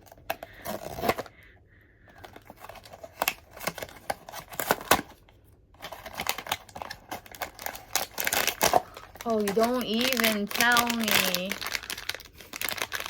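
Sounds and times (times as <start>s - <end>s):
cardboard and plastic packaging tearing: 0.0s - 1.3s, 2.2s - 13.0s
packaging crinkling: 0.0s - 1.5s, 2.1s - 13.0s.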